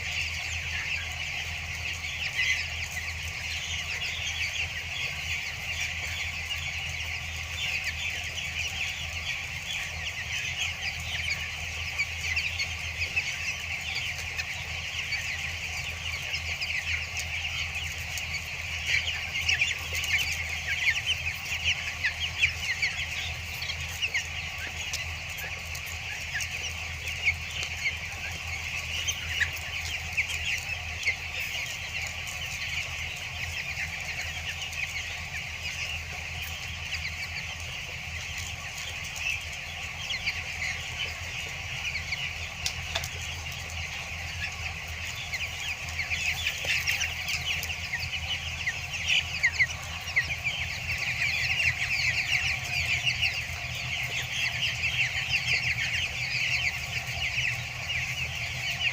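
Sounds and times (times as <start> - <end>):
chicks peeping: 0.0 - 58.9.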